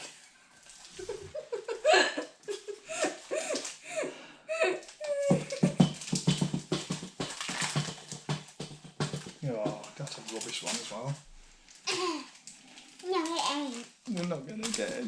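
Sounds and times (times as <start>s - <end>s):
crackling and rustling: 0.0s - 3.8s, 4.8s - 15.0s.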